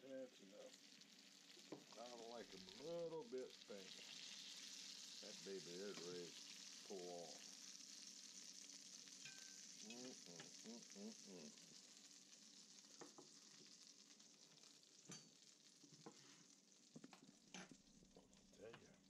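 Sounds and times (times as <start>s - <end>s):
steaks sizzling in a skillet: 0.0s - 19.0s.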